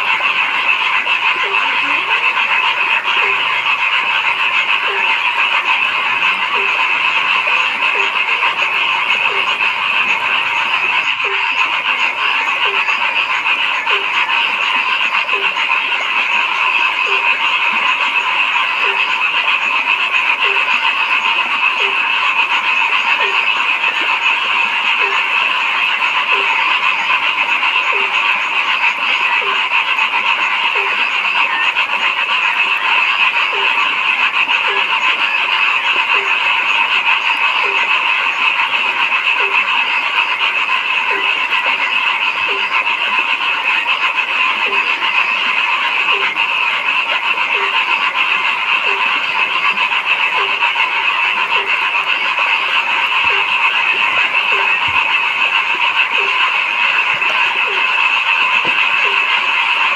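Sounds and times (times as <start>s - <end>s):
frog chorus: 0.0s - 59.9s
low frog croak: 0.0s - 59.9s.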